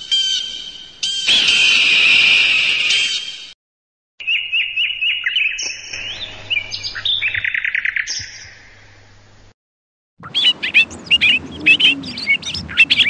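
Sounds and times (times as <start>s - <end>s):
songbird chirps and trill: 0.0s - 3.6s, 4.2s - 9.0s, 10.2s - 13.0s.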